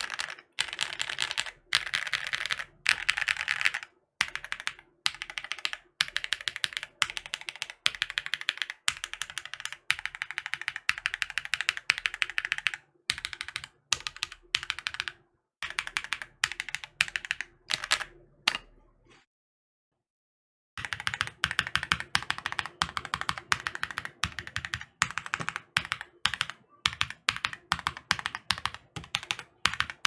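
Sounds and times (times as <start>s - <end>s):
mechanical keyboard typing: 0.0s - 18.7s, 20.8s - 30.0s.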